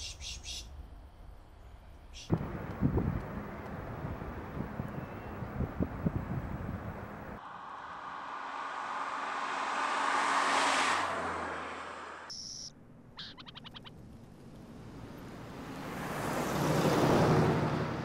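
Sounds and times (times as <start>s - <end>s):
cars passing by: 2.3s - 13.1s, 14.0s - 18.0s.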